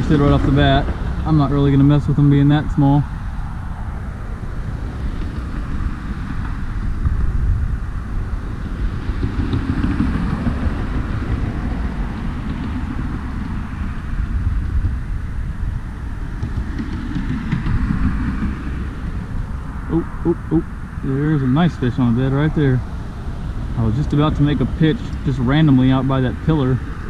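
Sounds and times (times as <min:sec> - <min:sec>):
rumble of passing vehicles: 0:00.0 - 0:27.0.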